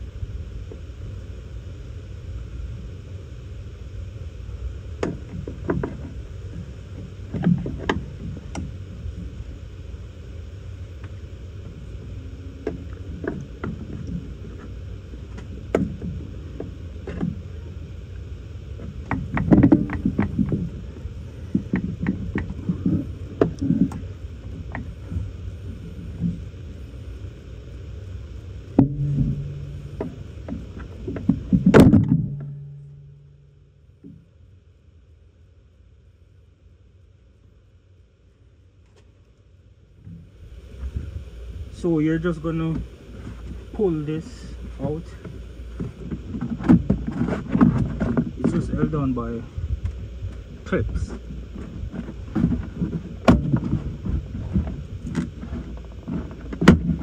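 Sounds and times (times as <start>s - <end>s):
short steady hum: 0.0s - 57.0s
steady low rumble: 0.0s - 57.0s.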